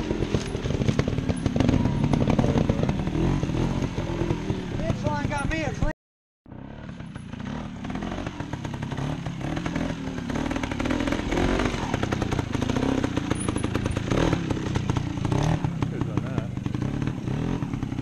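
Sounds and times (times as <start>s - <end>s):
motorcycle engine throttle blips: 0.0s - 5.9s, 6.5s - 18.0s.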